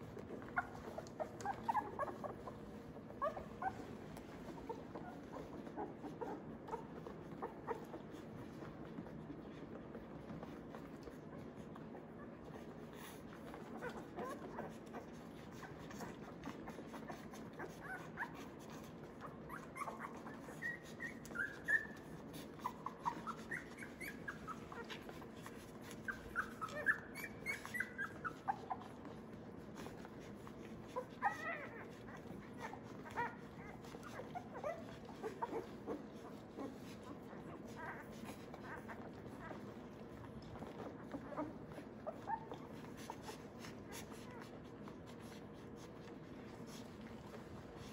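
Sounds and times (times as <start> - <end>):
low steady background hum: 0.0 - 47.9
puppies squeaking and whimpering: 0.1 - 8.4, 12.0 - 47.9.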